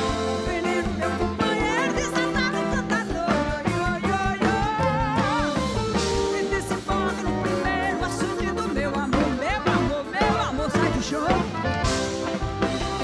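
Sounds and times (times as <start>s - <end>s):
woman singing into a microphone: 0.0s - 11.8s
live band music: 0.0s - 13.0s.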